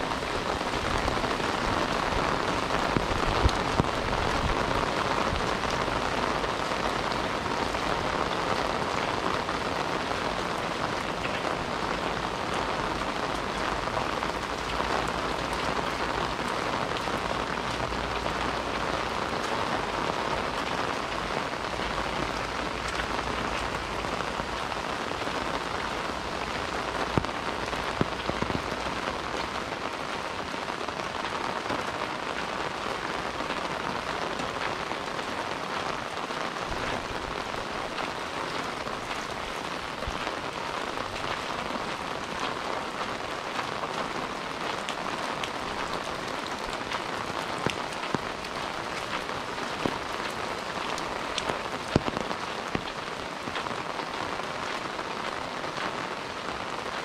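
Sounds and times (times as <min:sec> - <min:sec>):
rain on hard surfaces: 0:00.0 - 0:57.0
sharper raindrops: 0:00.0 - 0:57.0.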